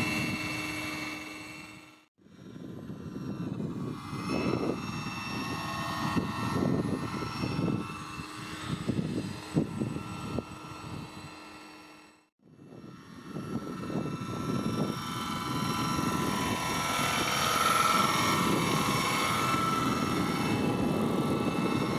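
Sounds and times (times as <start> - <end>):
rc helicopter motor whine: 0.0 - 21.9.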